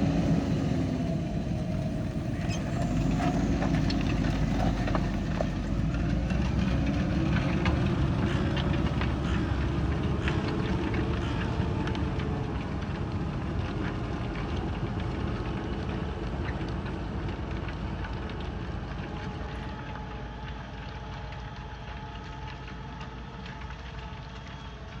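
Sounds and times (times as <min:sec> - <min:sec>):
harvester engine running: 0:00.0 - 0:22.5.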